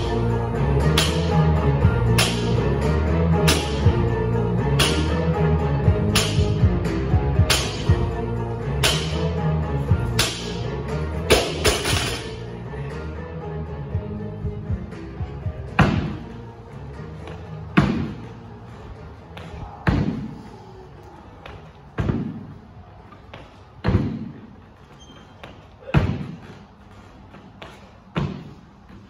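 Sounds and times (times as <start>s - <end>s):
background music: 0.0s - 24.8s.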